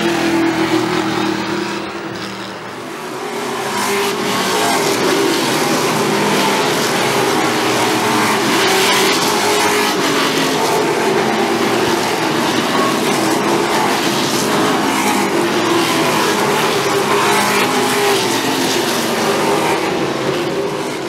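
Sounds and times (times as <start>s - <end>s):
race car engines at high revs: 0.0s - 21.0s.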